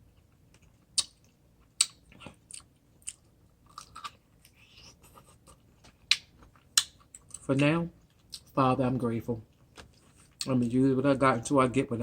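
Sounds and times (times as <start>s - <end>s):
person chewing crisp food: 0.0s - 8.5s, 9.5s - 10.7s.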